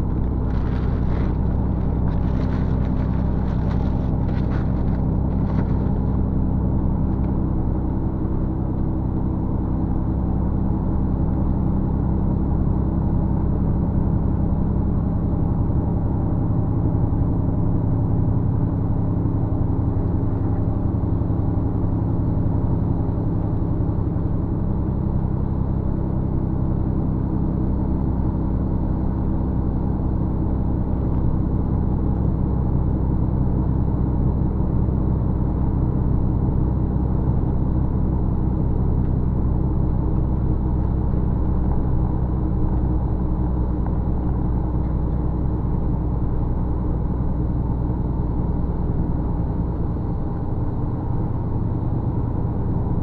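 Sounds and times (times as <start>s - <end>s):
bus engine and road drone: 0.0s - 53.0s.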